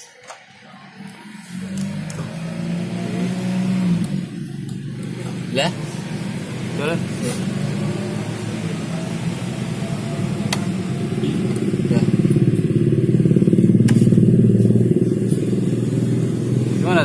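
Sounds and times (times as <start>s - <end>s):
engine running: 0.4s - 17.0s.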